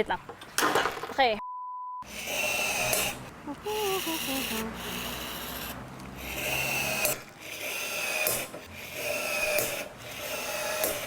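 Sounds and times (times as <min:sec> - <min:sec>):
rivet tool rasping with squeal: 0:02.0 - 0:11.0.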